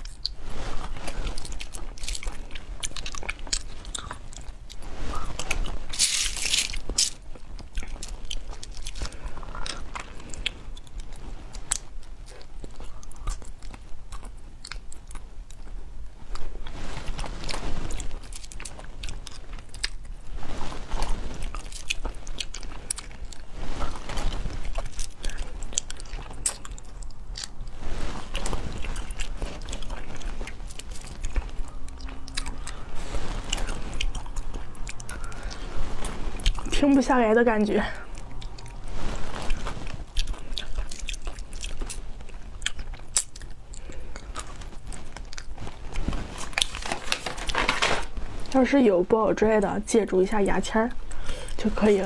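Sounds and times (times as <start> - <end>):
biting and chewing: 0.0 - 48.5.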